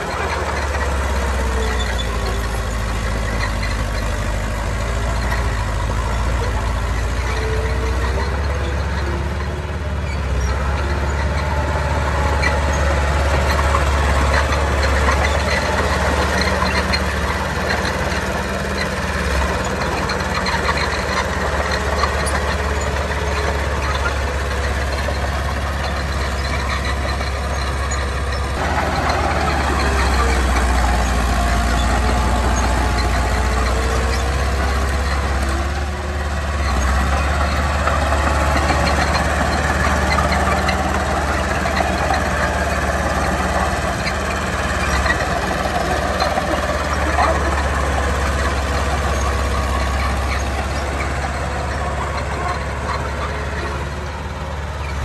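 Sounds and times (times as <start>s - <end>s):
heavy machinery engines droning: 0.0s - 55.0s.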